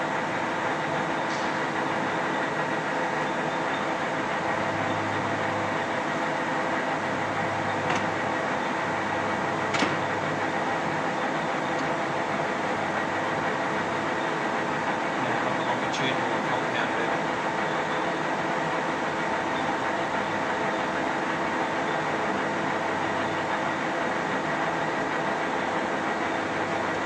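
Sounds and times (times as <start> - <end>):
lathe mechanical hum: 0.0 - 27.0.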